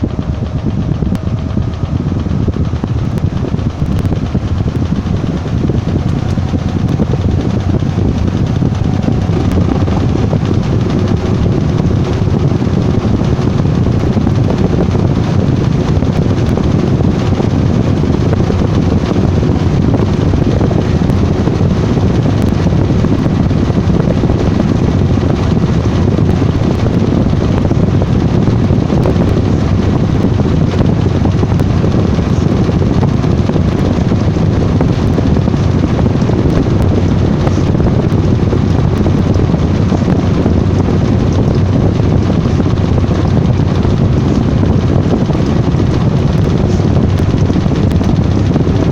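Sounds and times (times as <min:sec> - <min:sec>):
washing machine rumbling: 0:00.0 - 0:48.9.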